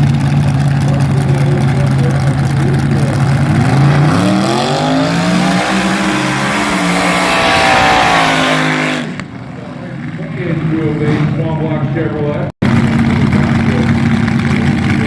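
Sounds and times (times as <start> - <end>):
dragster engine idling and revving: 0.0 - 15.0.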